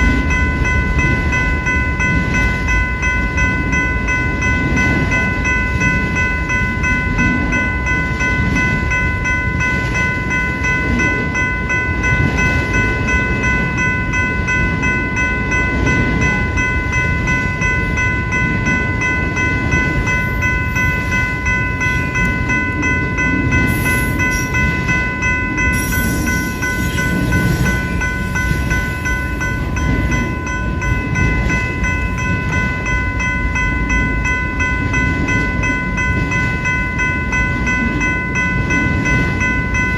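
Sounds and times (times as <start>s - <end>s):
crossing bell ringing: 0.0s - 39.9s
train rumbling past: 0.0s - 39.9s.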